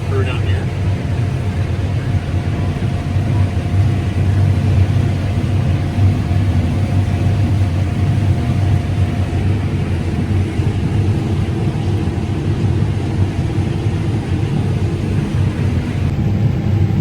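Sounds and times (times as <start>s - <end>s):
combine harvester drone: 0.0s - 17.0s
faint steady whine: 0.0s - 17.0s.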